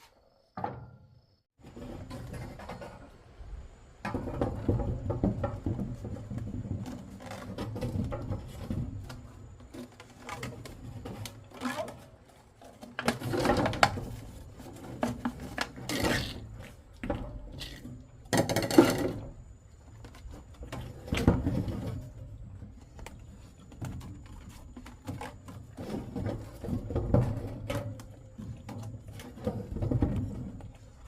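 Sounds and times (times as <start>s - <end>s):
objects knocking and clattering: 0.5s - 3.3s, 4.0s - 31.0s.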